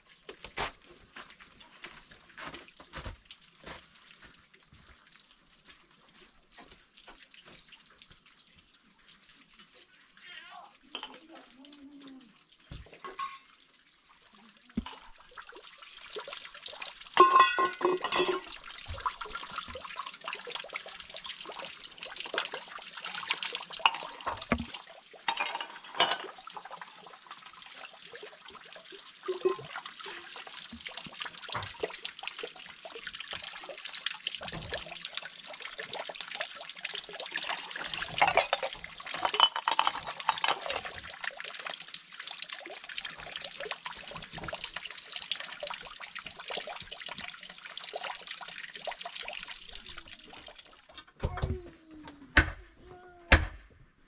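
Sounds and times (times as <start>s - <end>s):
water running and splashing: 0.0s - 52.2s.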